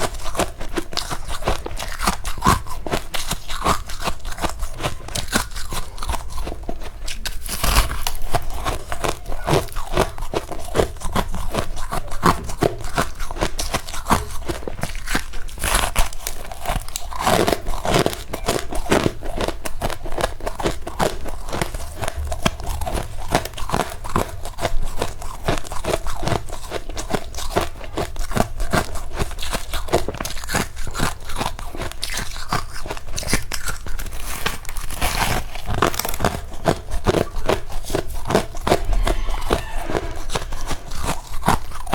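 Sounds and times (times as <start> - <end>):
crunching and chewing frost: 0.0 - 41.9.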